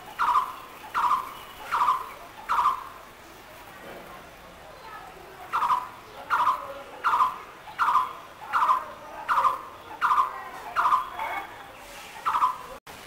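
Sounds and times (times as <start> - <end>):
bird calling with rolling notes: 0.0 - 3.2, 5.3 - 12.8.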